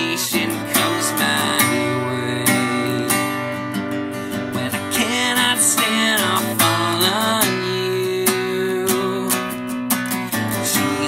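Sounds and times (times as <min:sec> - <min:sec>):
acoustic guitar strumming: 0:00.0 - 0:11.0
man singing: 0:00.0 - 0:11.0.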